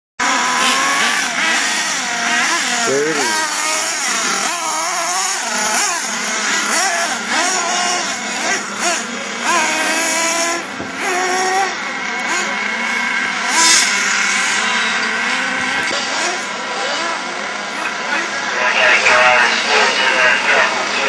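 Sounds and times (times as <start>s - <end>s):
small engines whining: 0.2s - 21.0s.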